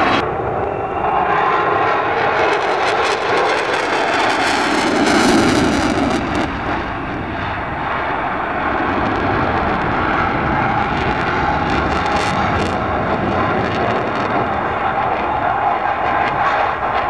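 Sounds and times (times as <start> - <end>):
airplane passing overhead: 0.0 - 17.0.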